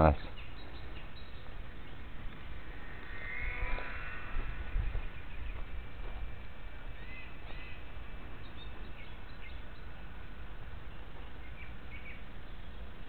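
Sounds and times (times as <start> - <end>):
outdoor background hiss: 0.0 - 13.0
songbirds chirping: 0.0 - 13.0.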